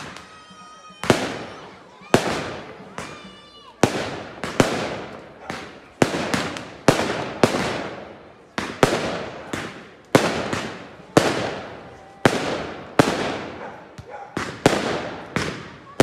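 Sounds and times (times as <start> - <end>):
small firework pops: 0.0 - 16.0.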